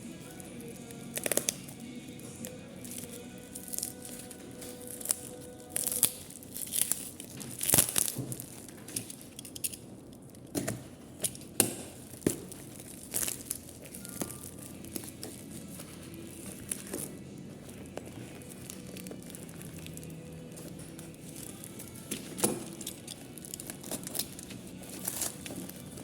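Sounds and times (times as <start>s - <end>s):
wrapping crinkling and tearing: 0.3s - 26.0s.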